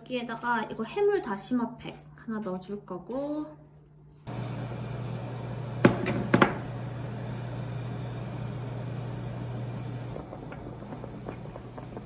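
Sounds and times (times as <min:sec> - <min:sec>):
low electric hum: 0:01.3 - 0:12.0.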